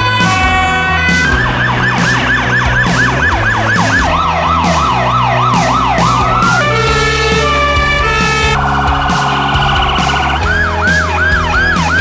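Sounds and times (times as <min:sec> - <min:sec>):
musical beat: 0:00.0 - 0:12.0
siren yelping: 0:00.0 - 0:12.0.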